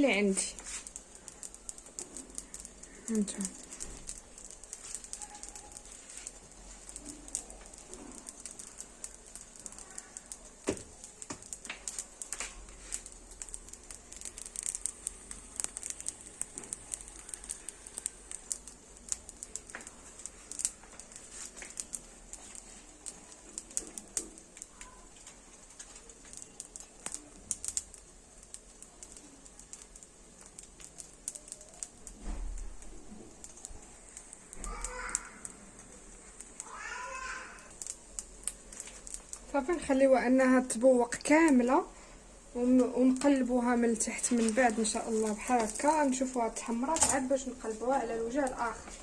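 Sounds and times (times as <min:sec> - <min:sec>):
batter sizzling in a hot pan: 0:00.0 - 0:49.0
small crackling ticks: 0:00.0 - 0:49.0.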